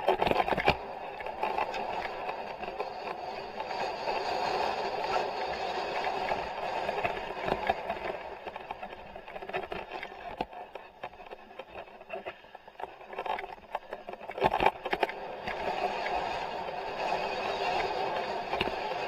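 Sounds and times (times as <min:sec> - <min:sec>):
bicycle knocking and rattling: 0:00.0 - 0:19.0
wind and tyres rushing: 0:00.0 - 0:19.0.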